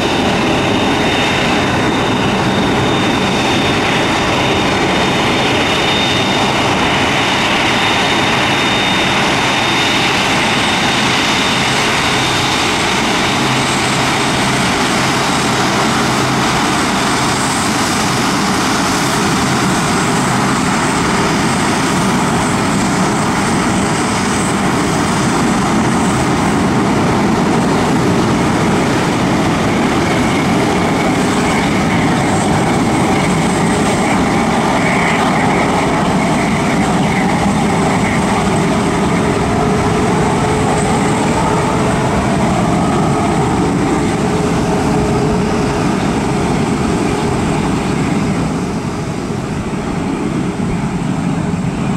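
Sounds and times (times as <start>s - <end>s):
jet engines rumbling with whine: 0.0s - 51.9s.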